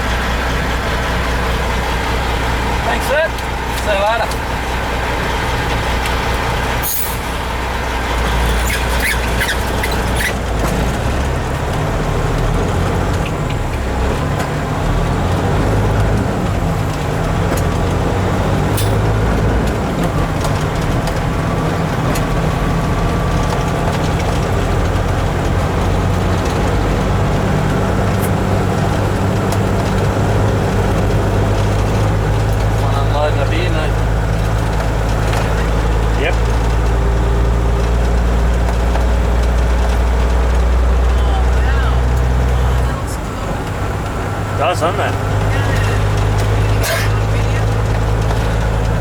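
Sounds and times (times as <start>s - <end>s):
truck diesel engine accelerating: 0.0s - 49.0s.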